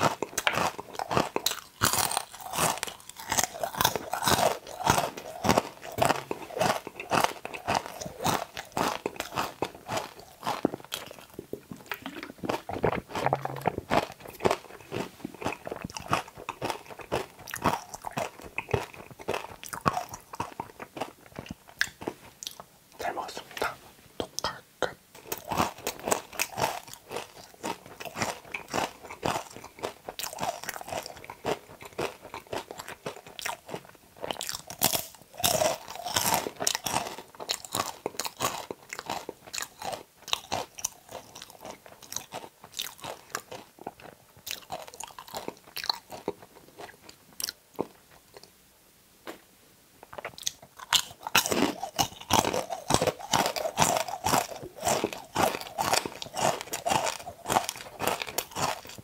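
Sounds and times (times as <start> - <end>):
crunching and chewing okra: 0.0 - 48.6, 50.0 - 59.0.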